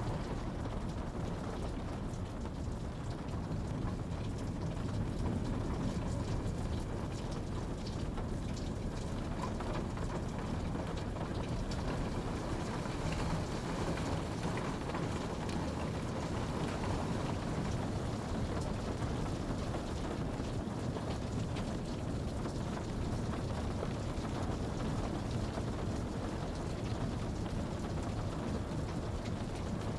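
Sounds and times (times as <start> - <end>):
raindrops ticking: 0.0 - 29.9
steady rain hiss: 0.0 - 29.9.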